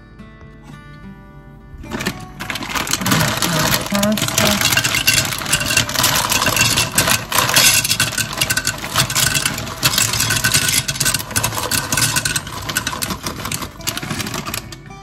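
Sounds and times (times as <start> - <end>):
dry pasta rattling into a crock: 1.8 - 15.0.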